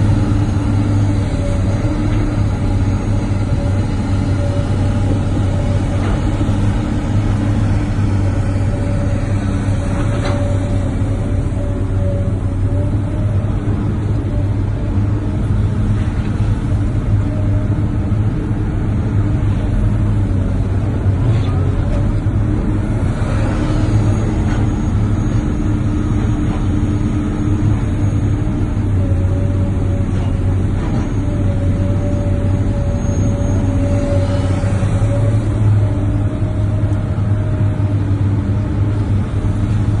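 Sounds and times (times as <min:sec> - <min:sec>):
heavy engine droning: 0:00.0 - 0:40.0.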